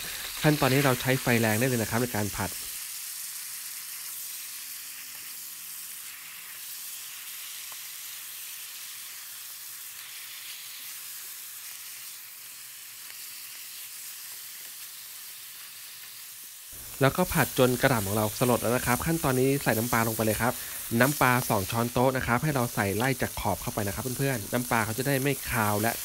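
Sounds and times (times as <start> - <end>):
leaves sizzling in hot oil: 0.0 - 26.0.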